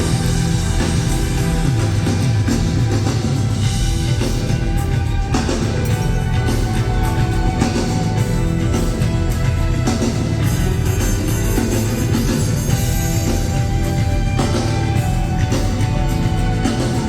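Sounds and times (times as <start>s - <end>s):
bass guitar: 0.0s - 17.0s
drums: 0.0s - 17.0s
rock band playing: 0.0s - 17.0s.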